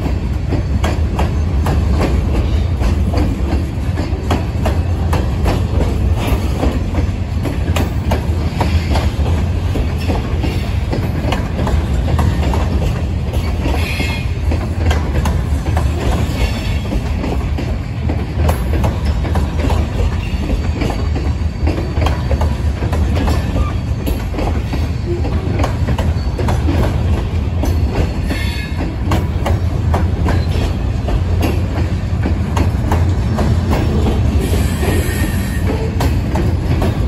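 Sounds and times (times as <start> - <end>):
train wheels rumbling on rails: 0.0 - 37.0
wheels clicking over rail joints: 0.0 - 37.0.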